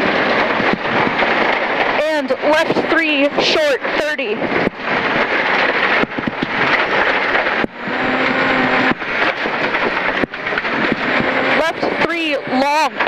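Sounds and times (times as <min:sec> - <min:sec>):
rally car engine running hard: 0:00.0 - 0:13.0
tyre road and stone noise: 0:00.0 - 0:13.0.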